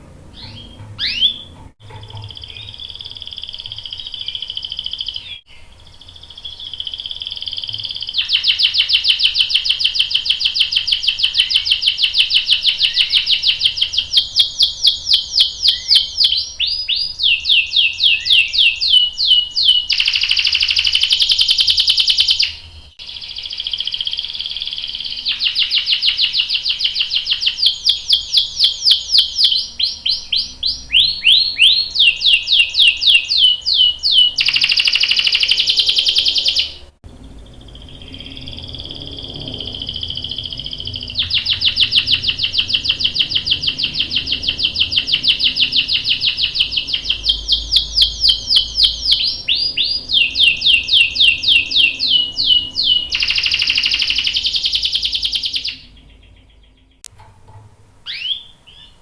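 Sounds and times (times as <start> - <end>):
canary singing trills: 0.0 - 57.1, 58.0 - 59.0.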